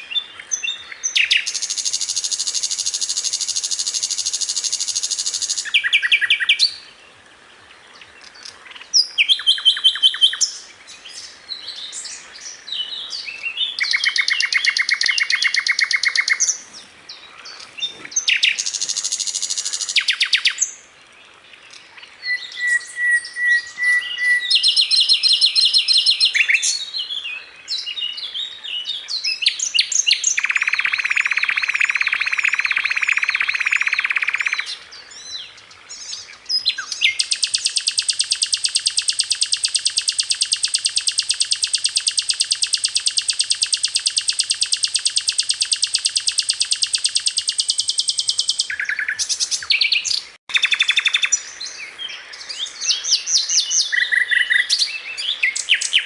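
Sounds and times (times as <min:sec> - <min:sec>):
bird singing chirps and trills: 0:00.0 - 0:56.0.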